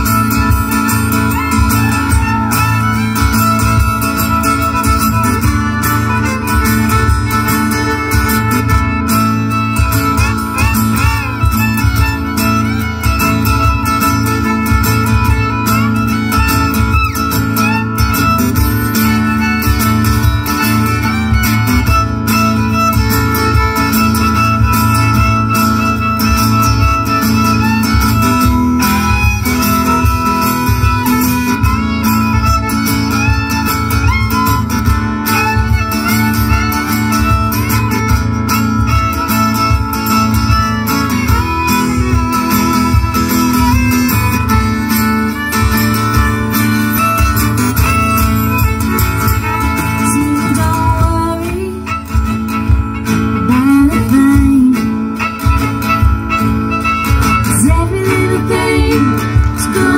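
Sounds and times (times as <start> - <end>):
acoustic guitar strumming: 0.0 - 59.9
fiddle playing melody: 0.0 - 59.9.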